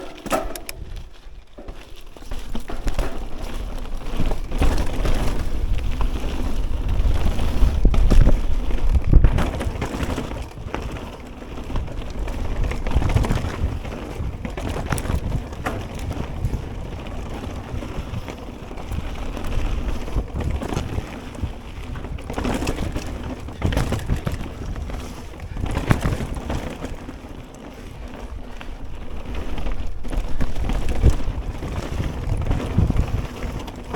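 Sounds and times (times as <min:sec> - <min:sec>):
bike clattering over rough ground: 0:00.0 - 0:33.9
bike tyre noise: 0:00.0 - 0:33.9
wind rumbling on microphone: 0:00.0 - 0:33.9.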